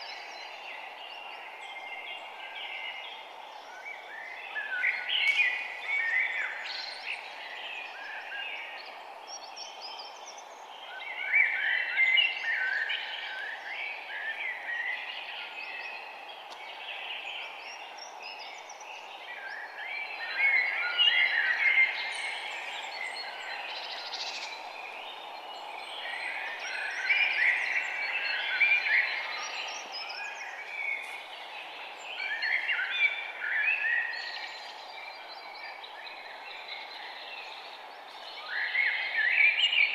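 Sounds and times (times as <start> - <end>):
low background hiss: 0.0 - 39.9
songbirds chirping: 0.0 - 39.9.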